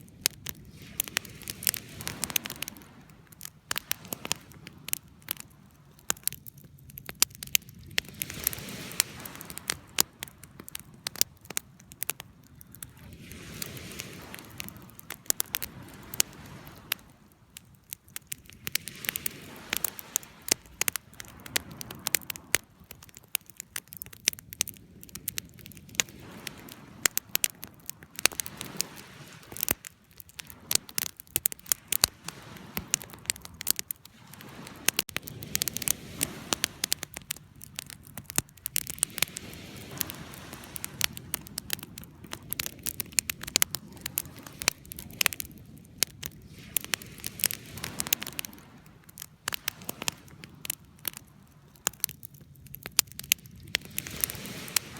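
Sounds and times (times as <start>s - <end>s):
low rush of flame: 0.0s - 54.9s
wood crackling and popping: 0.0s - 54.9s.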